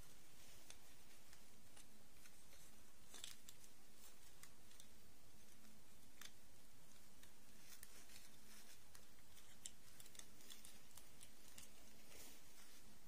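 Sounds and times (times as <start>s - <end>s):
plastic dolls clicking and rustling: 0.4s - 13.0s.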